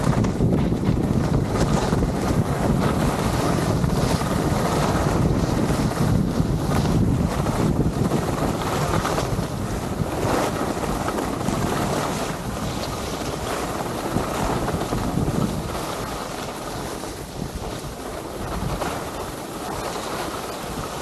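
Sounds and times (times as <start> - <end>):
skis scraping over snow: 0.0 - 21.0
wind buffeting microphone: 0.0 - 21.0.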